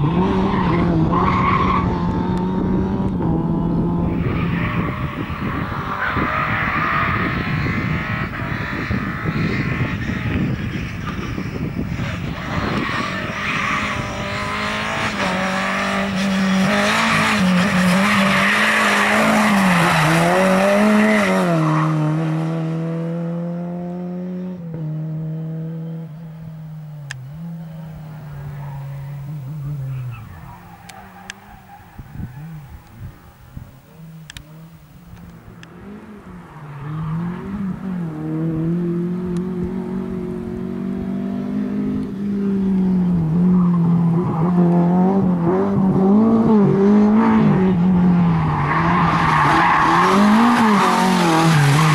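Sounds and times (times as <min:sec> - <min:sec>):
tyres skidding: 0:00.0 - 0:23.6, 0:24.2 - 0:51.9
rally car engine revving: 0:00.0 - 0:51.9.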